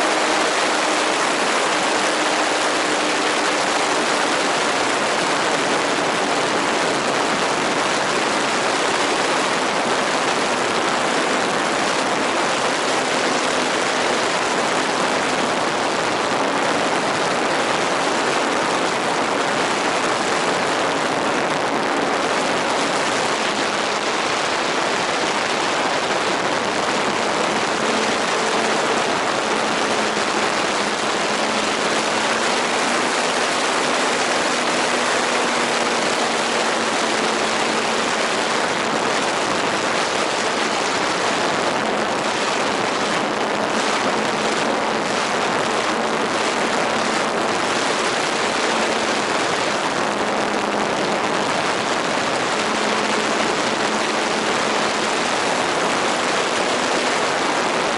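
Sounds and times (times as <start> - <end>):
model aeroplane motor drone: 0.0 - 57.9
steady rushing noise: 0.0 - 57.9.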